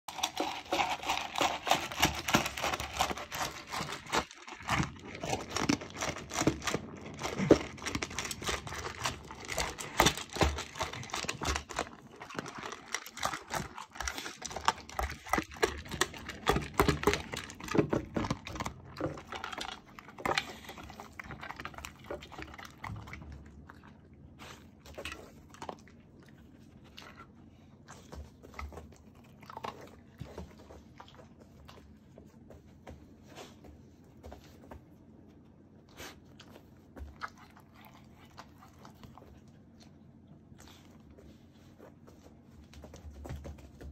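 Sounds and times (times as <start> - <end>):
dog crunching dry food: 0.1 - 32.0, 36.3 - 41.4.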